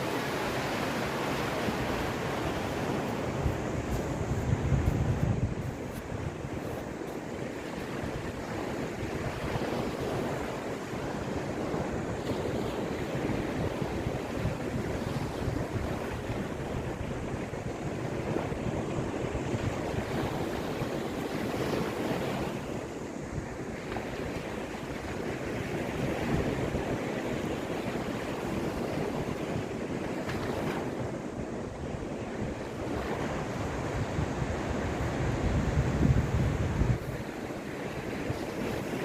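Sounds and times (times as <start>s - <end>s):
waves washing onto shore: 0.0s - 39.0s
wind rumbling on microphone: 0.0s - 39.0s.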